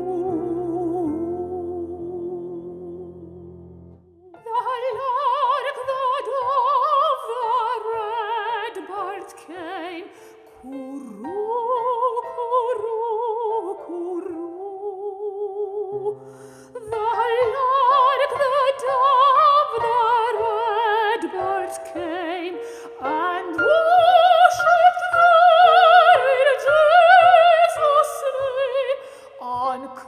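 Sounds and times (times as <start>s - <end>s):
soprano singing with vibrato: 0.0s - 3.4s, 4.4s - 30.0s
soft accompaniment: 0.0s - 30.0s.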